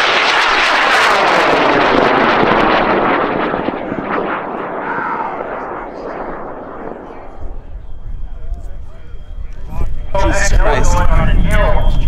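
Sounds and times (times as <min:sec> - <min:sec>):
rocket motor roaring and crackling: 0:00.0 - 0:12.0.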